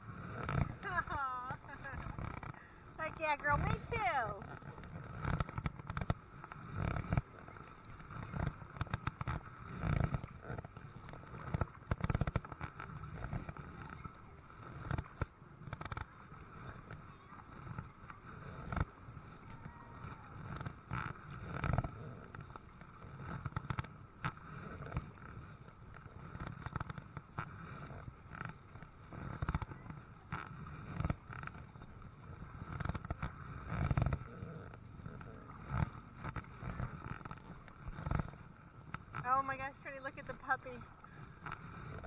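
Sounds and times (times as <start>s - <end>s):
water noise: 0.0s - 42.0s.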